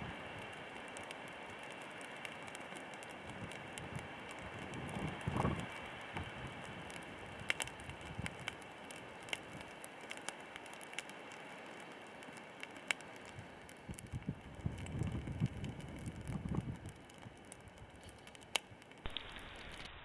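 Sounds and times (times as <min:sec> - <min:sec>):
campfire crackling and popping: 0:00.0 - 0:20.0
fire hissing: 0:00.0 - 0:20.0.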